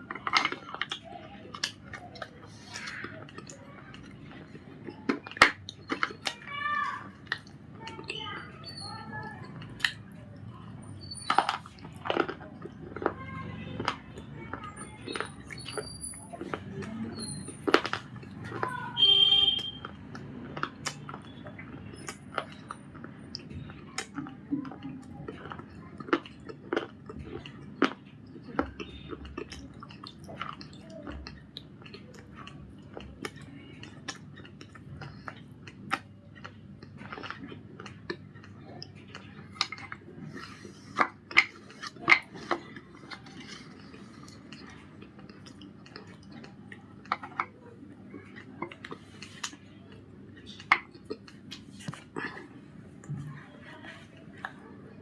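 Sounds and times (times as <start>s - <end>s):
crunching hard biscuit: 0.0s - 55.0s
moist chewing: 0.0s - 55.0s.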